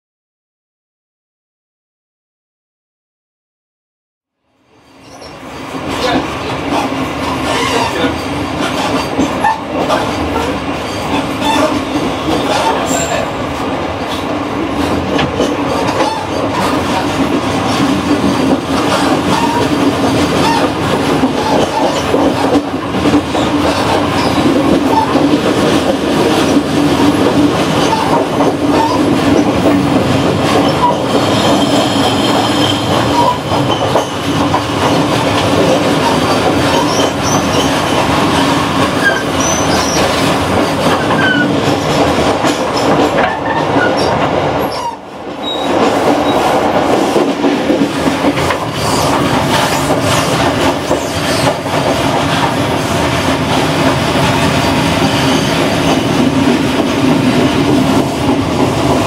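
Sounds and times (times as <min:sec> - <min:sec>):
train wheels rumbling on rail: 0:04.6 - 0:59.0
rail clacks: 0:05.2 - 0:59.0.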